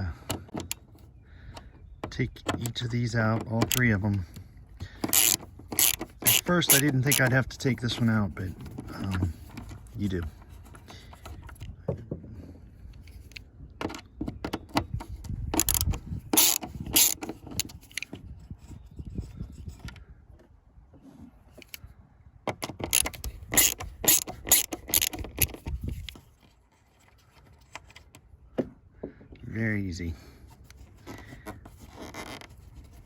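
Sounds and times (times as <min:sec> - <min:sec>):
screwdriver clicking and scraping: 0:00.0 - 0:11.8, 0:12.9 - 0:20.1, 0:21.5 - 0:21.9, 0:22.5 - 0:28.2, 0:30.6 - 0:33.0.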